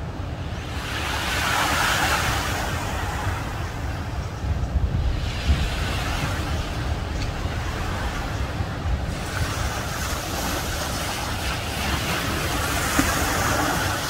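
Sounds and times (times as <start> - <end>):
ocean surf breaking: 0.0 - 14.0
wind rumbling on microphone: 0.0 - 14.0.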